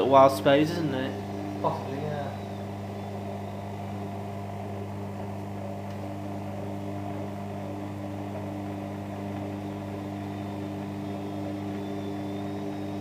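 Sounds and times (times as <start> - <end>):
machine tone: 0.0 - 13.0
washing machine motor humming: 0.0 - 13.0.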